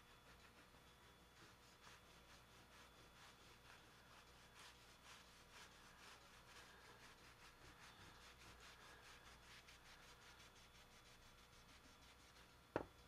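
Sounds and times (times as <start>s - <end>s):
rhythmic rubbing on plastic: 0.0s - 13.0s.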